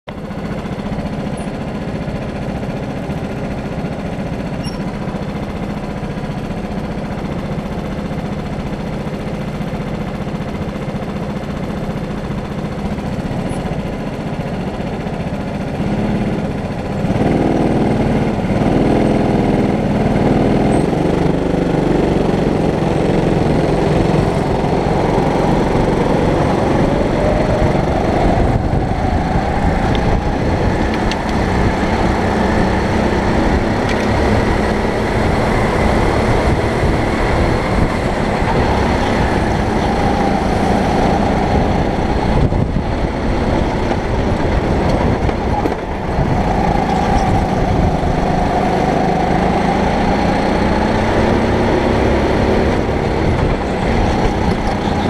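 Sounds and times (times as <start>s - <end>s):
go-kart engines: 0.0s - 55.0s.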